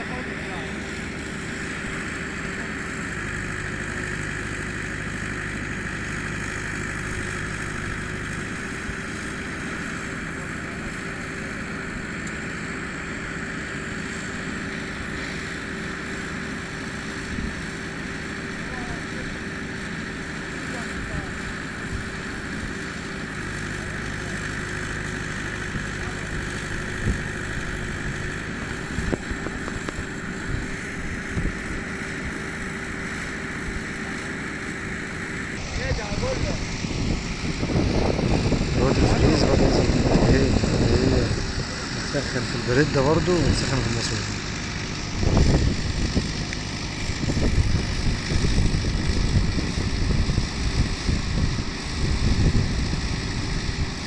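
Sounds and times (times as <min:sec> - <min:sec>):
welding machine power unit drone: 0:00.0 - 0:54.0.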